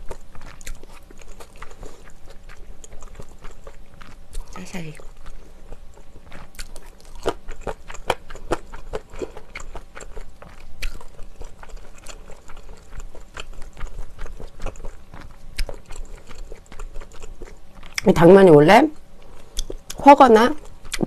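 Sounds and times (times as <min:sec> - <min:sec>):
wet chewing mouth clicks: 0:00.0 - 0:18.1.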